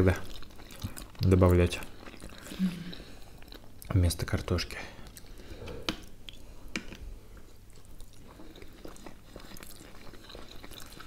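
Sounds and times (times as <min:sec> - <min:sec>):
close chewing of food: 0:00.0 - 0:11.0.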